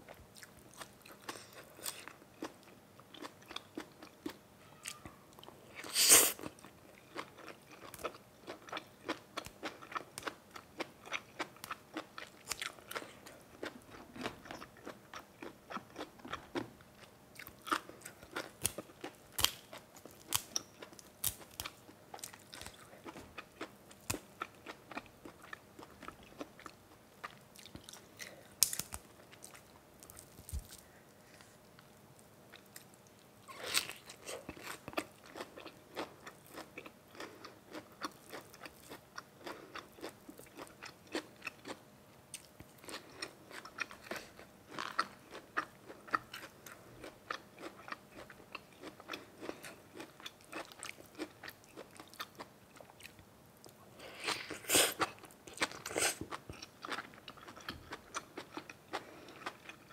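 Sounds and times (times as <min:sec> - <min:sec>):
person chewing crunchy food: 0:00.1 - 0:30.9, 0:32.5 - 0:59.9.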